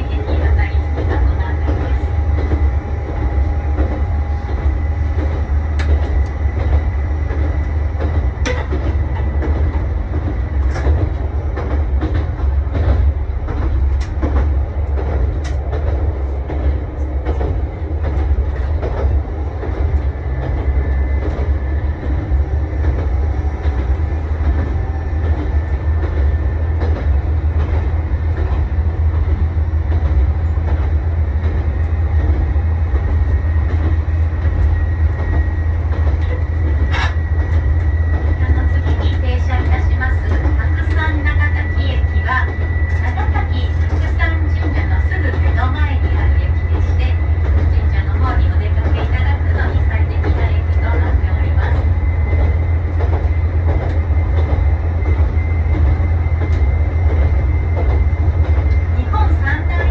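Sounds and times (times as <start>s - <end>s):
railcar engine drone: 0.0s - 59.9s
wheels clicking on rails: 0.0s - 59.9s.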